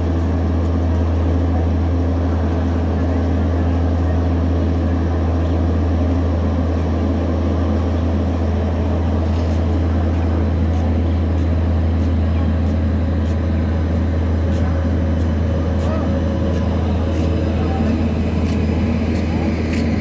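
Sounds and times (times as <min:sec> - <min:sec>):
electric locomotive hum: 0:00.0 - 0:20.0.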